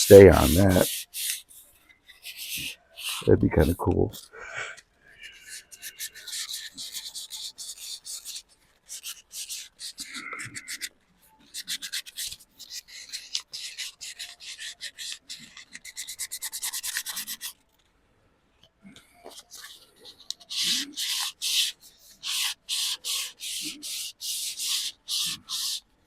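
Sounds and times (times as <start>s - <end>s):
rubbing dried gourd shell: 0.0s - 4.3s, 5.2s - 17.6s, 19.2s - 26.0s.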